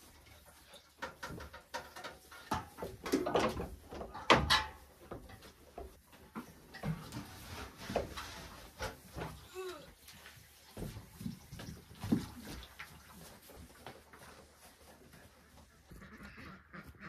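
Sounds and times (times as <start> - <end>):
metal milking pail clattering: 0.0 - 15.2.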